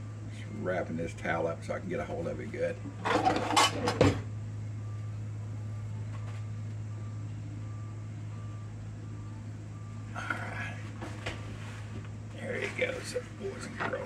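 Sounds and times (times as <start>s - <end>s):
countertop oven humming: 0.0s - 14.0s.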